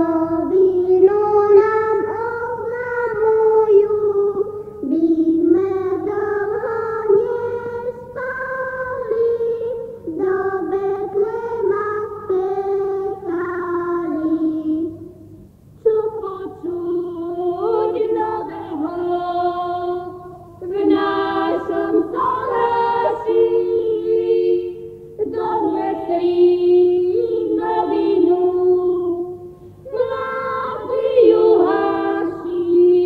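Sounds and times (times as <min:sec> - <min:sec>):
group singing folk carol: 0:05.1 - 0:15.0, 0:15.8 - 0:33.0.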